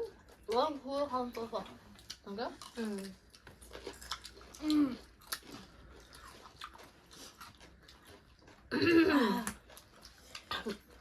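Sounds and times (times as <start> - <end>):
chewing and crunching food: 0.0 - 11.0.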